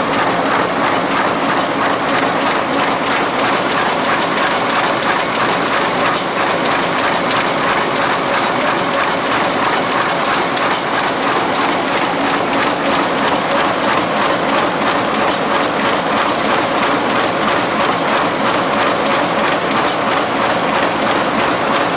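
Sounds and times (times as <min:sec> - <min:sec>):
constant machine hum: 0:00.0 - 0:21.9
sewing machine mechanical clatter: 0:00.0 - 0:21.9.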